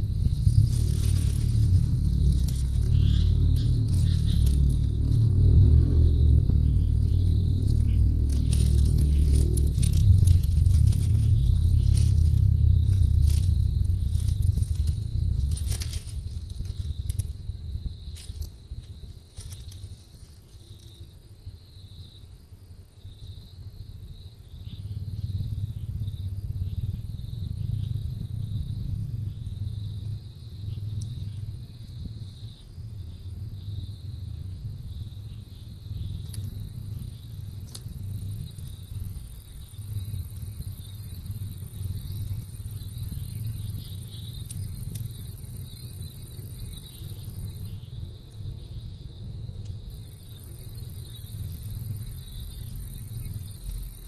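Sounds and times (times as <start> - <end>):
low rumble: 0.0 - 20.9, 24.5 - 54.0
crickets trilling: 0.0 - 54.0.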